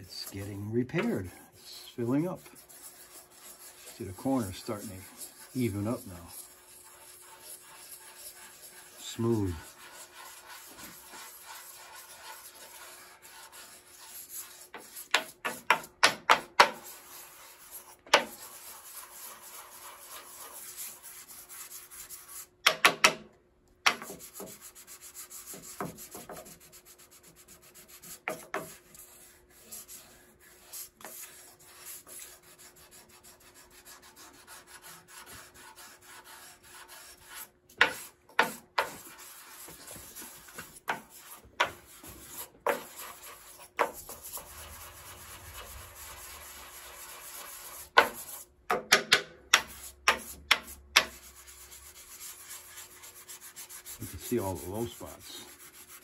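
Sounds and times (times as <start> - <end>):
sandpaper scratching on wood: 0.0 - 22.6, 23.9 - 48.5, 49.5 - 56.0.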